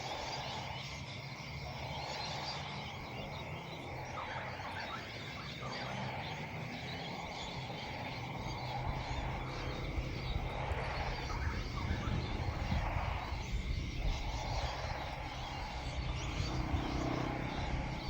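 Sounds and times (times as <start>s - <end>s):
faint bird chirps: 0.0s - 18.0s
wind rumbling on microphone: 0.0s - 18.0s.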